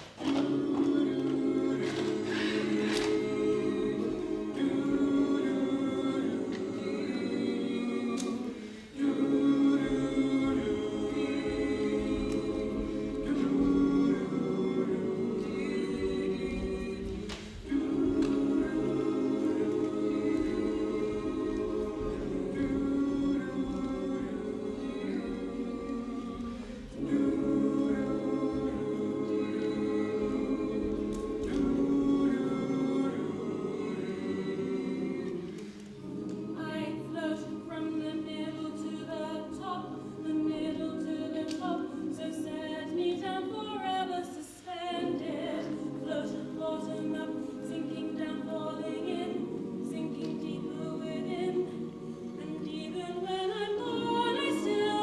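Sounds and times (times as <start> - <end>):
choir singing held chords: 0.0 - 55.0.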